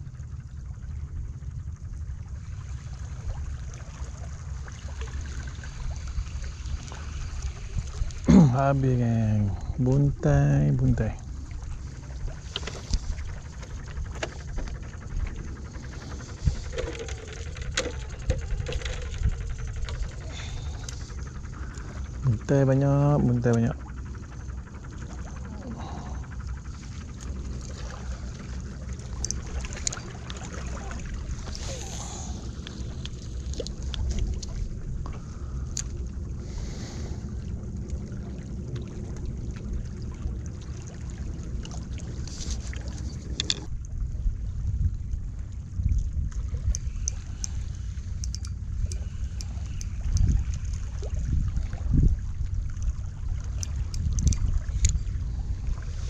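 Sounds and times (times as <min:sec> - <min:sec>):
wind rumbling on microphone: 0:00.0 - 0:56.0
aerator pump buzzing: 0:03.0 - 0:44.0, 0:45.2 - 0:56.0.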